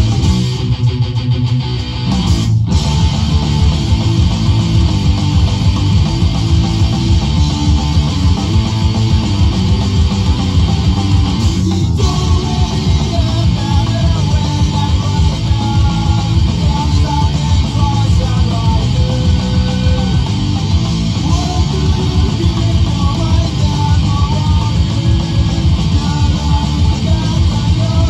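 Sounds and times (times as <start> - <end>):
hardcore punk rock music: 0.0 - 28.0.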